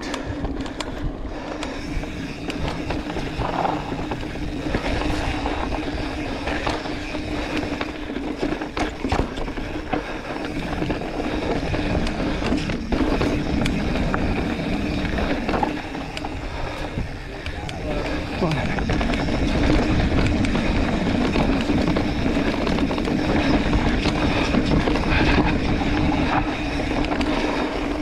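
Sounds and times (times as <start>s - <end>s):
bike knocking and rattling: 0.0s - 28.0s
wind rumbling on microphone: 0.0s - 28.0s
tyres rolling over dirt: 1.8s - 28.0s.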